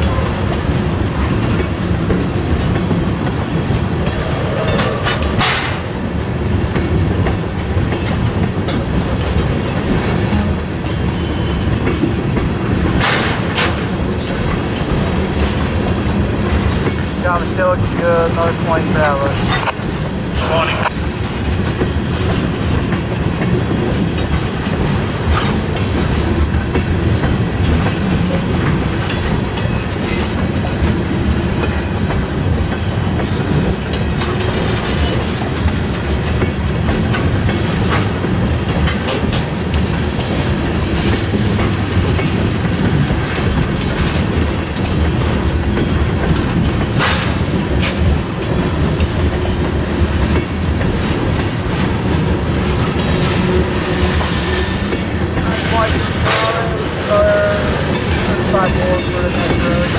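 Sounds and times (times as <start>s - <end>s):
steel wheels clicking over rail joints: 0.0s - 59.9s.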